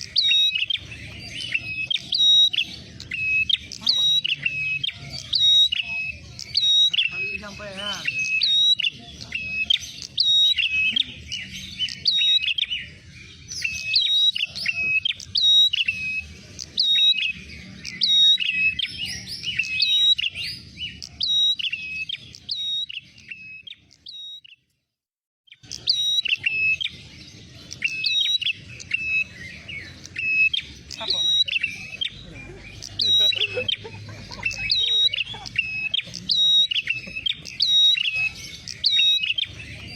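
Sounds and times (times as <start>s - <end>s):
warbler chirping calls: 0.0s - 24.7s, 25.5s - 39.9s.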